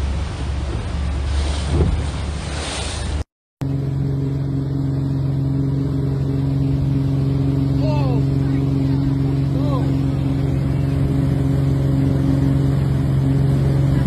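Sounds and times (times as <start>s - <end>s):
rushing water: 0.0s - 3.3s, 5.1s - 14.0s
boat wake noise: 0.0s - 14.0s
motorboat engine running: 0.0s - 14.0s.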